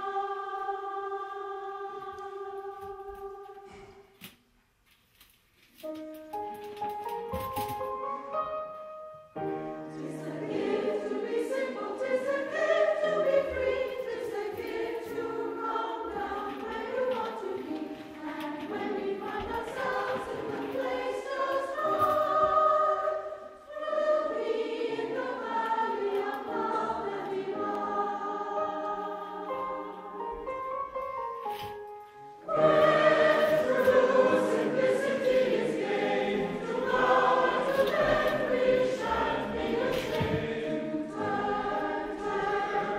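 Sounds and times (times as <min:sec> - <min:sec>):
choir singing held notes: 0:00.0 - 0:04.1, 0:08.2 - 0:42.9.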